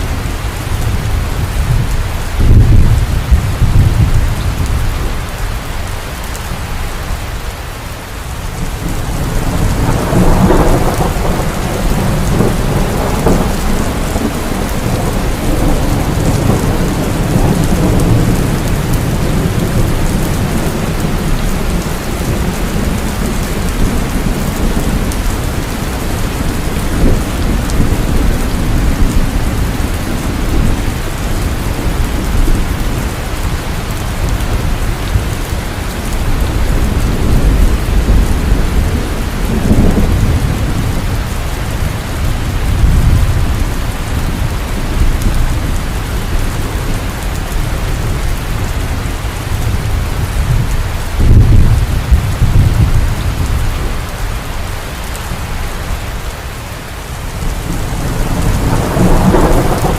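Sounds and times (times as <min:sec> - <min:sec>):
thunder clap and rolling thunder: 0:00.0 - 0:05.2, 0:08.5 - 0:55.6, 0:57.3 - 0:59.9
heavy rain: 0:00.0 - 0:59.9.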